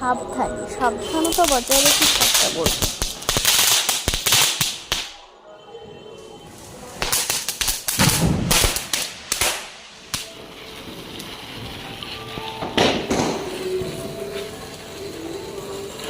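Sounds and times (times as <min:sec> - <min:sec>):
firecrackers bursting: 0:00.7 - 0:16.0.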